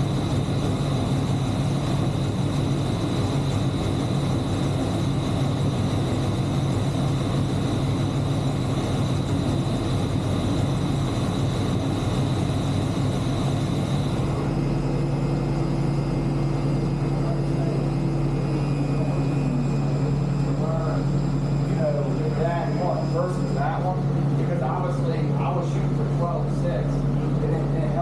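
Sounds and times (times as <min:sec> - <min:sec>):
machine low hum: 0:00.0 - 0:28.0
thin high whine: 0:00.0 - 0:28.0.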